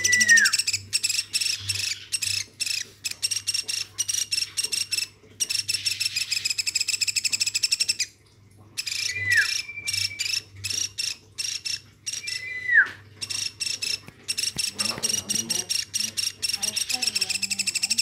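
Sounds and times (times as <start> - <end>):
fledgling woodpecker chirping: 0.0 - 8.1, 8.8 - 18.0.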